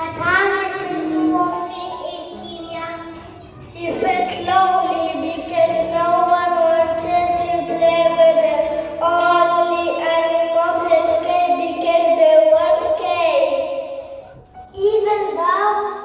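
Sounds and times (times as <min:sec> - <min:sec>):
instrumental accompaniment: 0:00.0 - 0:11.9, 0:13.6 - 0:16.0.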